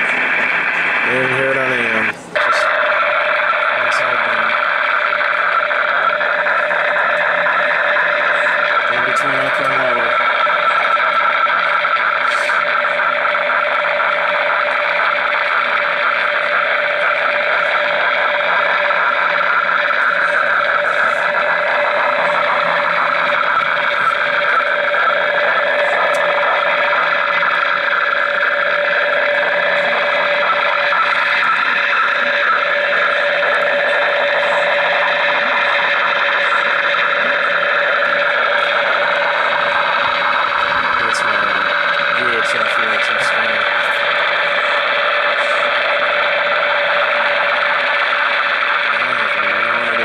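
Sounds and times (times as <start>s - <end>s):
constant radio tone: 0.0s - 50.0s
rasping radio static: 0.0s - 50.0s.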